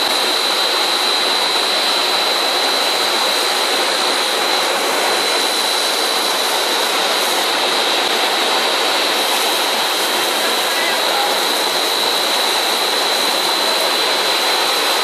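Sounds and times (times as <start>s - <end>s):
constant high machine whine: 0.0s - 15.0s
production line machinery running: 0.0s - 15.0s.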